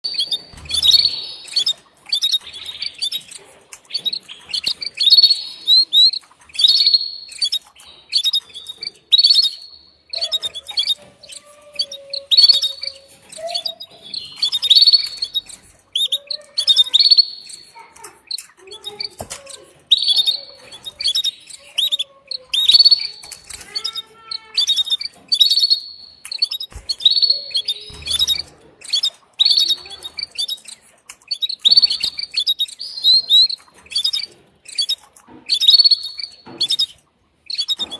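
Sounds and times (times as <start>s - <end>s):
canary chirping: 0.0s - 37.9s.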